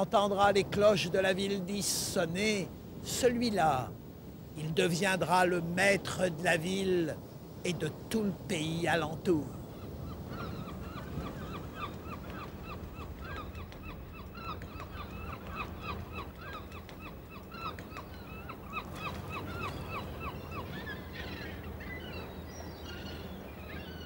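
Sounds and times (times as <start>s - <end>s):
gulls calling: 0.0s - 24.0s.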